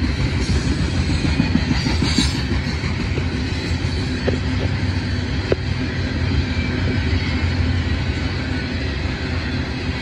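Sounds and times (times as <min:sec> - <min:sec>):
freight train rumbling past: 0:00.0 - 0:10.0.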